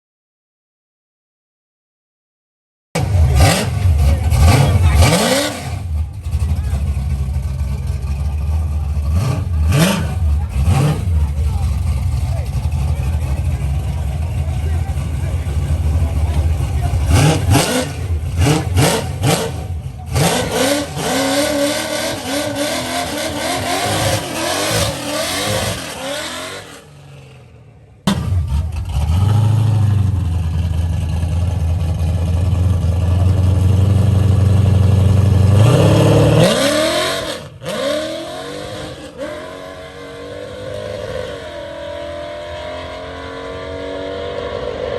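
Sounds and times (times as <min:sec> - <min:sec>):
car engine revving: 0:03.0 - 0:44.9.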